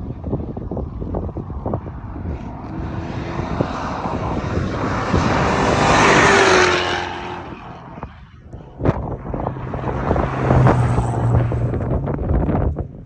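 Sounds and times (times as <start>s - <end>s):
car engine running: 0.0s - 13.0s
tyres on gravel and wind noise: 0.0s - 13.0s.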